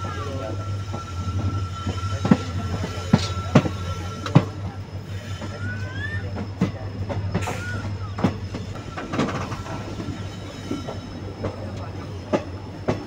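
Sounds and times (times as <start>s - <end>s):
train rumbling over track: 0.0s - 13.0s
train wheels squealing: 0.0s - 13.0s.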